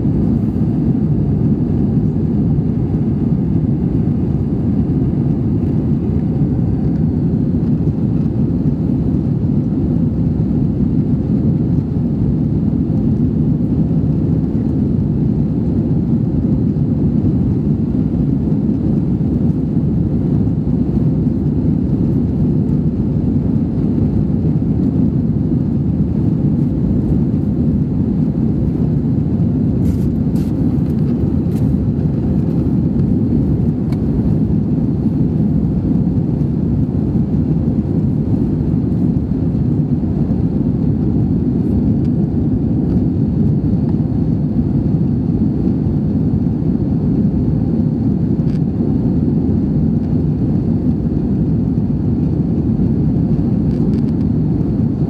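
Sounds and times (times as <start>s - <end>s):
jet engine cabin drone: 0.0s - 55.0s.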